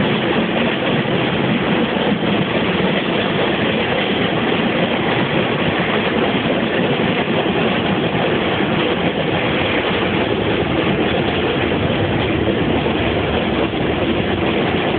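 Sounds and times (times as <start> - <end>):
train rumbling on rails: 0.0 - 14.9.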